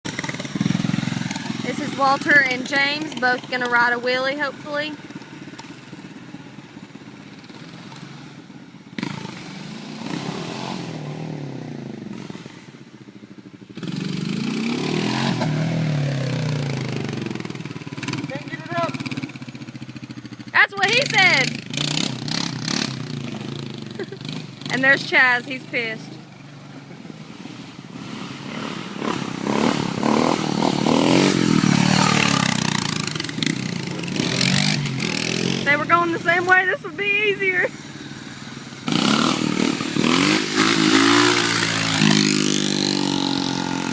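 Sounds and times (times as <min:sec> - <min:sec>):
dirt bike engines revving: 0:00.1 - 0:43.9.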